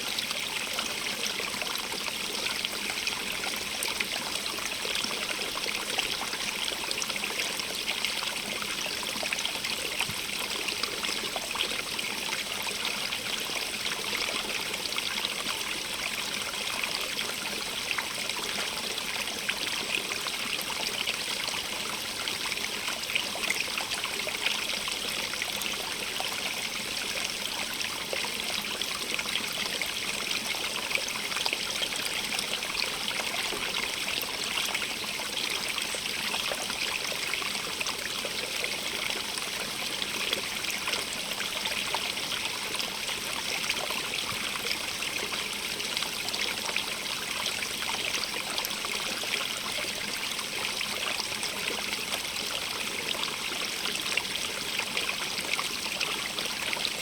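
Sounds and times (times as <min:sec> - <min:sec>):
water trickling over stones: 0:00.2 - 0:57.0.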